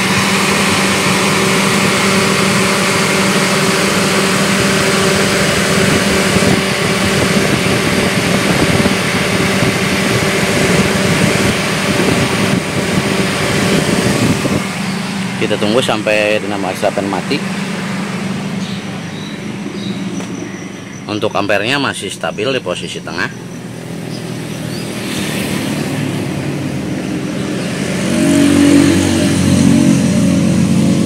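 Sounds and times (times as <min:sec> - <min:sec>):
car engine idling: 0:00.0 - 0:31.0
radiator cooling fan whirring: 0:00.0 - 0:31.0.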